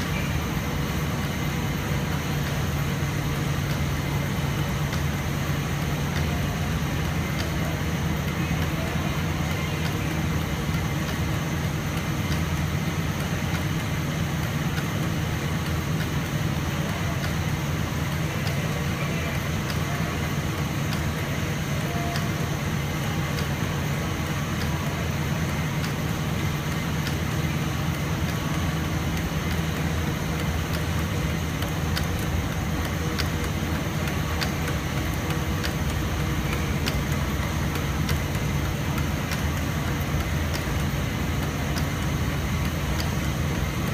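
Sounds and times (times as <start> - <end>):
printing machine humming: 0.0 - 43.9.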